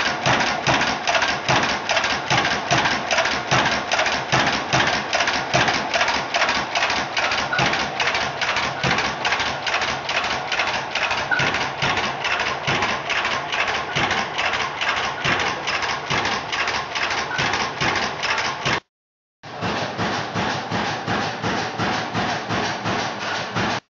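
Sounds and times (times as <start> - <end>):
engine compressor clattering: 0.0 - 18.9, 19.5 - 23.8.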